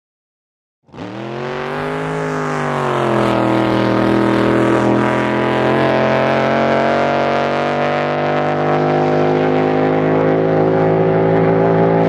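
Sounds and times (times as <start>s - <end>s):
racing boat engine at full throttle: 0.8s - 12.0s.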